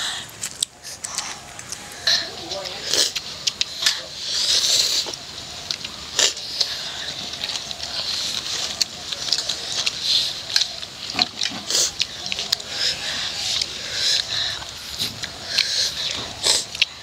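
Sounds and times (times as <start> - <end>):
noodles being slurped and chewed: 0.3 - 17.0.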